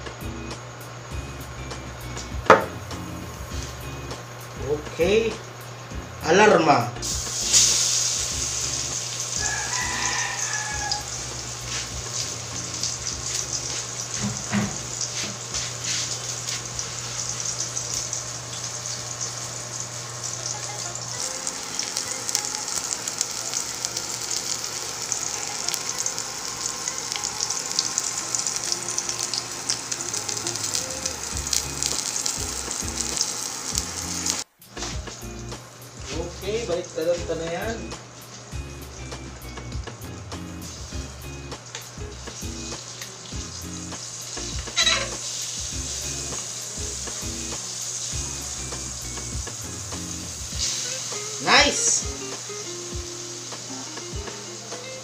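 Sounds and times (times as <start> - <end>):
fish sizzling in oil: 0.0 - 55.0.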